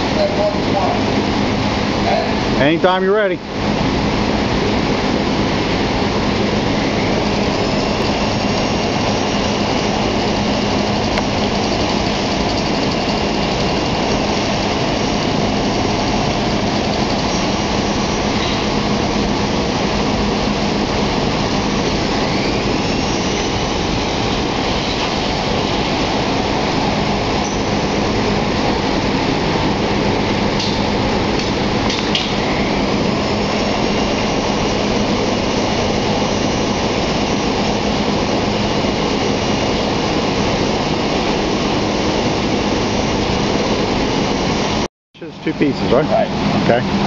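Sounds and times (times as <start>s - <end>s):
faint rising whine: 0.0s - 47.0s
machine mechanical drone: 0.0s - 47.0s.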